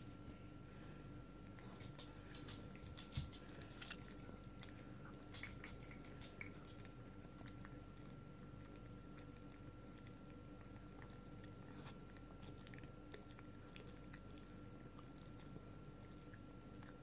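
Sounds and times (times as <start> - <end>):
steady low hum: 0.0 - 17.0
dog chewing: 1.4 - 17.0.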